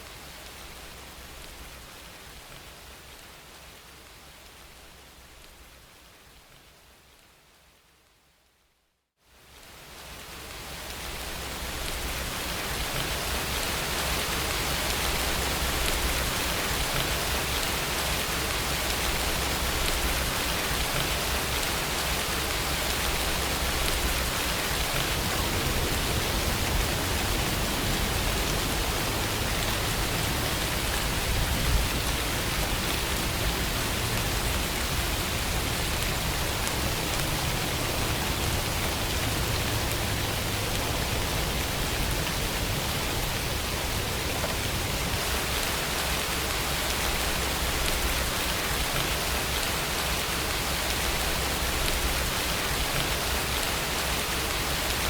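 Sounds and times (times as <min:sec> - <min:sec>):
steady rainfall: 0:00.0 - 0:08.4, 0:09.2 - 0:55.0.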